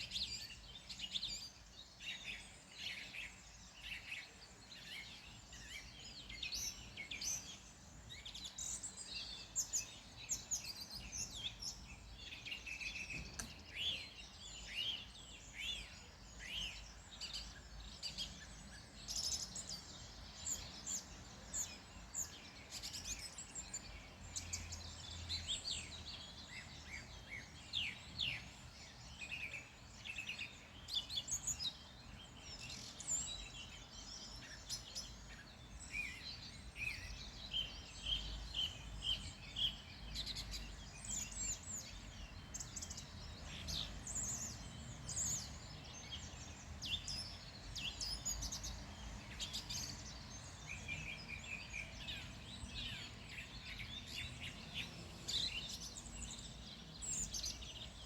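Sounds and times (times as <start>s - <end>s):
birds chirping and trilling: 0.1s - 58.0s.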